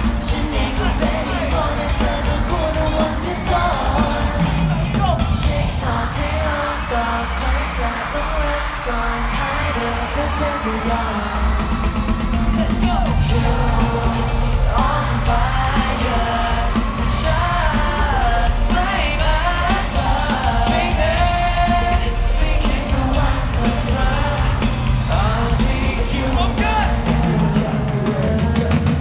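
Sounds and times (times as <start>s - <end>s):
crowd yelling: 0.0s - 29.0s
live pop music: 0.0s - 29.0s.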